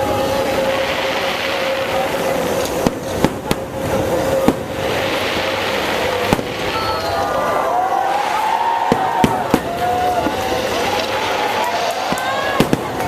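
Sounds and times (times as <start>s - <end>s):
fireworks crackling: 0.0s - 13.0s
sharp firework bangs: 0.0s - 13.0s.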